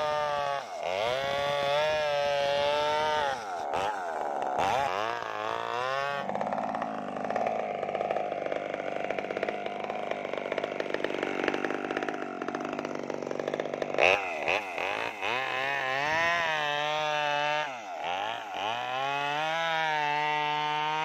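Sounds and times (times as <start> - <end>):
chainsaw cutting log: 0.0 - 21.0
chainsaw revving: 0.0 - 21.0.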